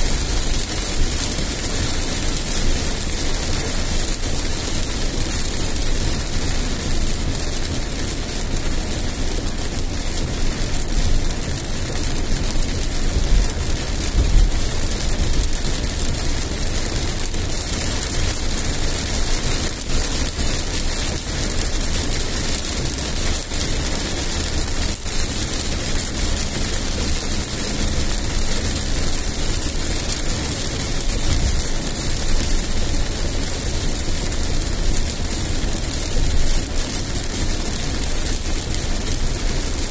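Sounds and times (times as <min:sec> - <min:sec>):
car low rumble: 0:00.0 - 0:39.9
rain on car windscreen: 0:00.0 - 0:39.9
tyres on wet road: 0:00.0 - 0:39.9.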